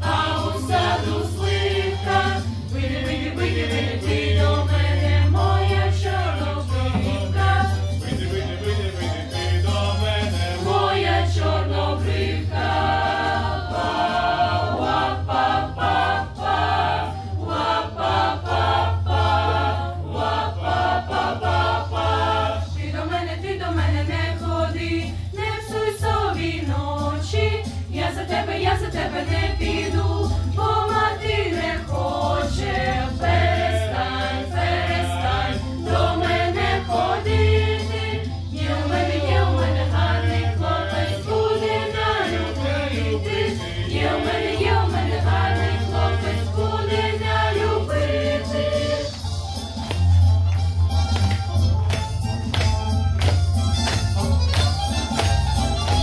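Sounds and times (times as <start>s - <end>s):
mixed choir singing in harmony: 0.0s - 49.9s.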